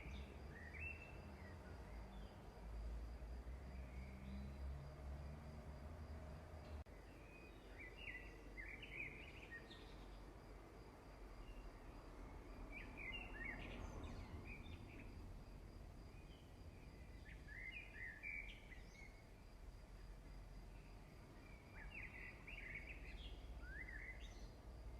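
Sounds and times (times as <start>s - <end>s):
faint bird chirping: 0.0s - 4.9s, 6.6s - 10.4s, 11.2s - 24.9s.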